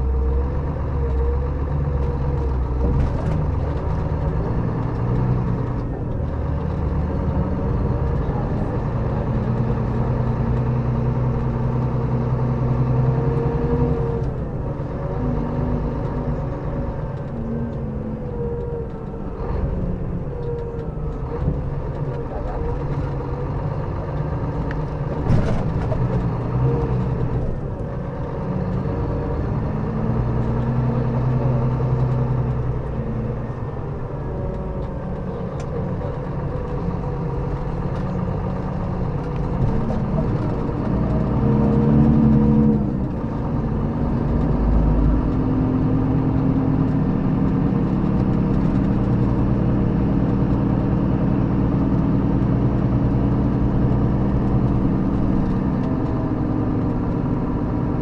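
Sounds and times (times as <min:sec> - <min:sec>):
diesel coach engine running: 0:00.0 - 0:58.0.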